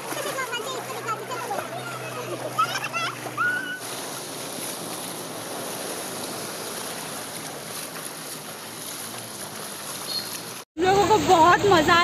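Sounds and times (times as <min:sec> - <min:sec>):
floodwater rushing: 0:00.0 - 0:12.0
people wading through water: 0:00.0 - 0:12.0.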